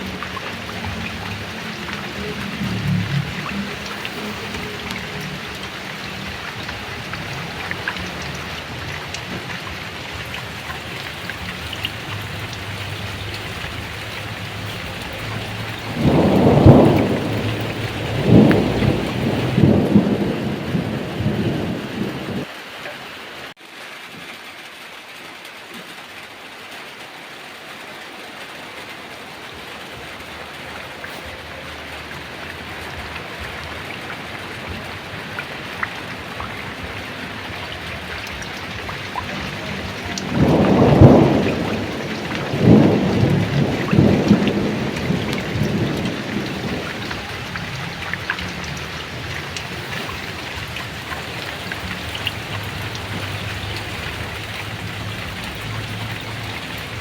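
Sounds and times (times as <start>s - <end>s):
rolling thunder: 0.0s - 22.5s, 29.6s - 57.0s
heavy rain pouring: 0.0s - 57.0s.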